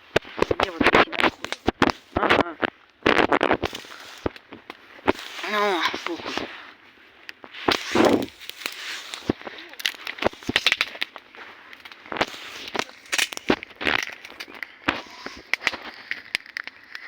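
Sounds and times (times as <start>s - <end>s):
burning wood popping: 0.0s - 17.0s
campfire crackling: 0.0s - 17.0s.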